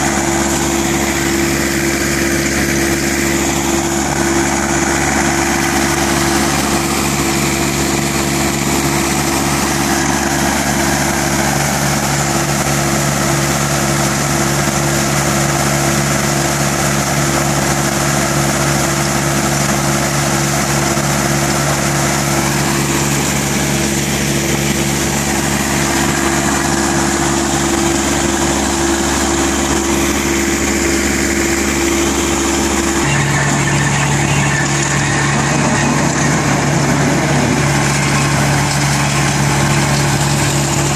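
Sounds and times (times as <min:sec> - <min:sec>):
conveyors running: 0:00.0 - 0:40.9
diesel engine droning: 0:00.0 - 0:40.9.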